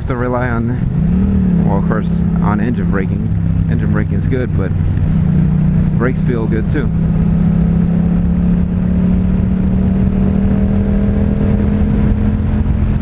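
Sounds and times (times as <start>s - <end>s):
motorcycle engine accelerating: 0.0s - 13.0s
wind rumble on microphone: 0.0s - 13.0s.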